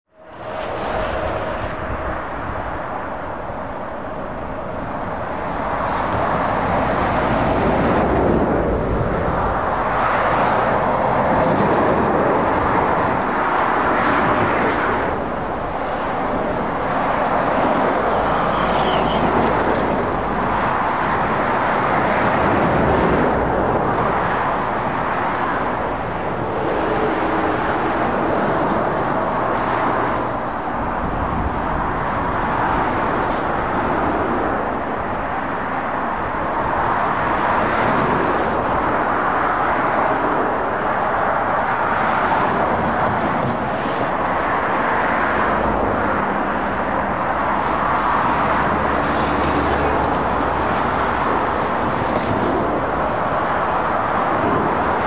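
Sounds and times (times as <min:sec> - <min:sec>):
lorries and cars passing: 0:00.1 - 0:55.0.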